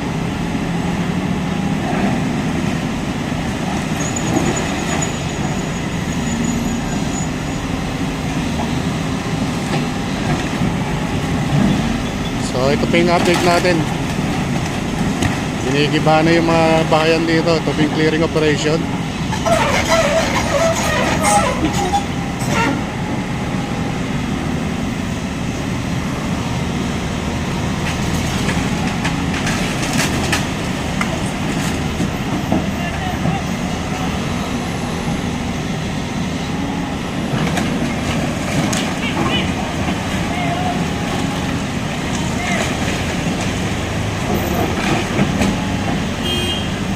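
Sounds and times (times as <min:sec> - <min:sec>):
excavator diesel engine rumble: 0:00.0 - 0:46.9.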